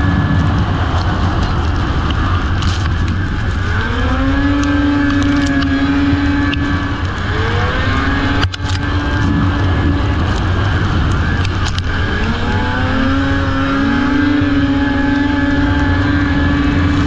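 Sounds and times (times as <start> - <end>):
racing snowmobile engines: 0.0 - 17.0
snowmobile engine revving: 0.0 - 17.0.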